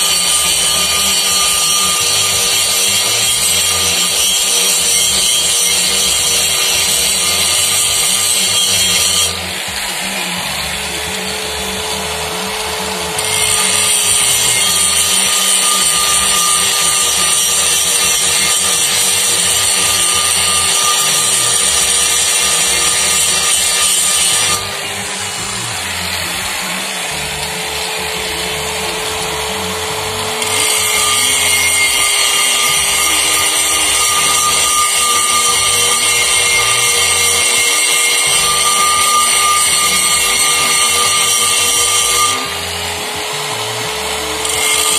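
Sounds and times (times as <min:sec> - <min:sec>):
angle grinder grinding metal: 0:00.0 - 0:44.9.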